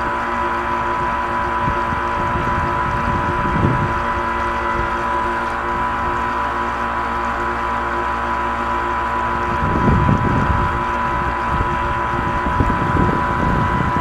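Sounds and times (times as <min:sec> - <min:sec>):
jet boat motor whining: 0:00.0 - 0:14.0
wind and water buffeting: 0:00.0 - 0:14.0.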